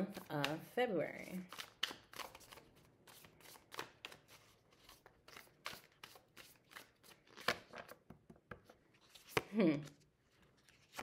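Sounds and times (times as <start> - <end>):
cards being shuffled: 0.1 - 11.0.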